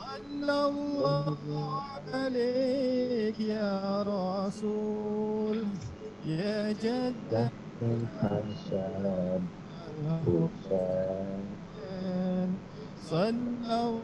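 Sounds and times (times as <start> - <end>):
man singing slow song: 0.0 - 14.0.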